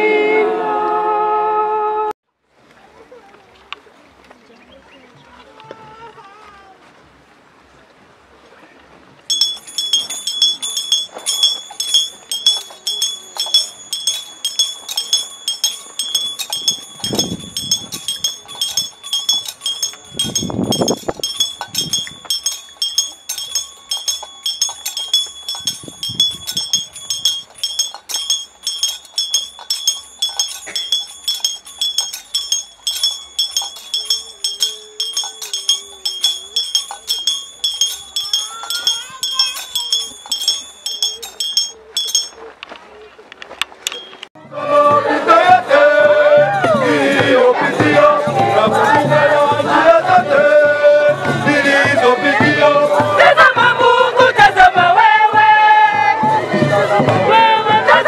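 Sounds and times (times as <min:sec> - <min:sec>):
altar bell ringing: 0:09.3 - 0:42.6, 0:43.9 - 0:58.0.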